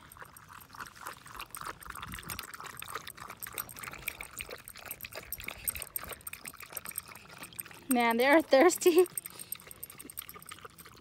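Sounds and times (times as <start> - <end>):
dogs lapping water: 0.0 - 11.0.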